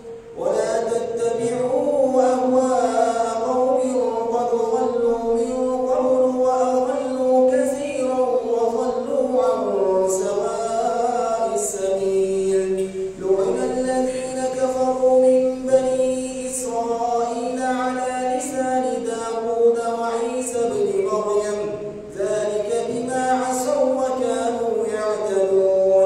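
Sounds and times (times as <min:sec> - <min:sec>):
man chanting melodically: 0:00.0 - 0:26.0.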